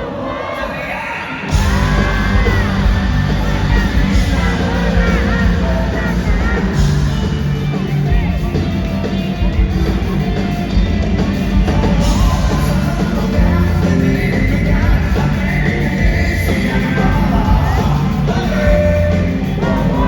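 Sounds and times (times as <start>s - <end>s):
person singing: 0.0s - 10.6s, 11.2s - 20.0s
drums: 0.0s - 20.0s
amplified guitars: 0.4s - 20.0s.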